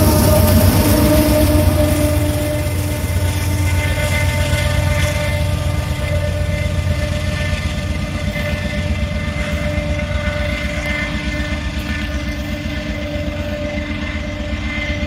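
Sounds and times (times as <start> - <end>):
diesel locomotive rumbling by: 0.0 - 15.0.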